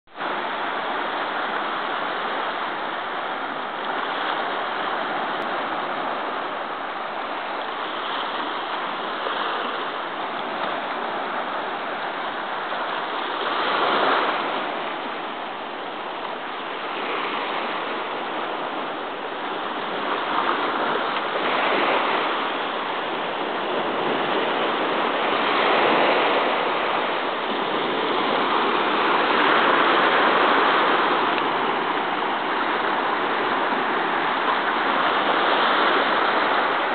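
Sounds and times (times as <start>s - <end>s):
sea waves washing over rocks: 0.1s - 36.9s.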